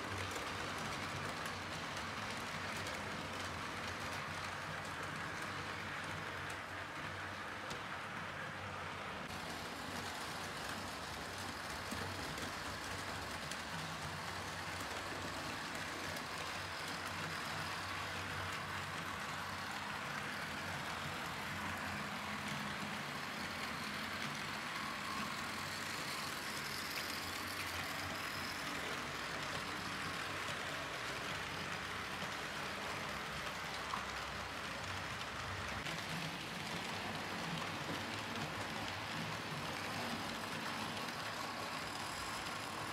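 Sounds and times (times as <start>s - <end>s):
model locomotive motors whirring: 0.0s - 42.9s.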